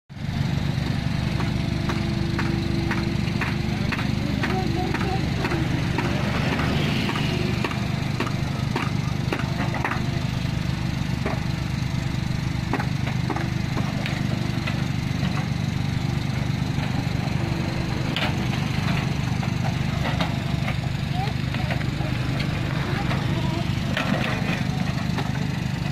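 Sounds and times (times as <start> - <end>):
mini excavator diesel engine running: 0.1 - 25.9.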